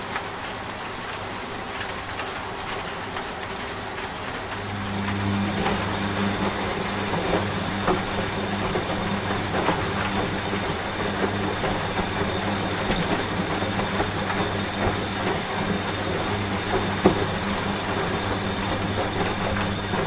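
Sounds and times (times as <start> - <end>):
steady rain: 0.0 - 20.0
washing machine hum: 0.0 - 20.0.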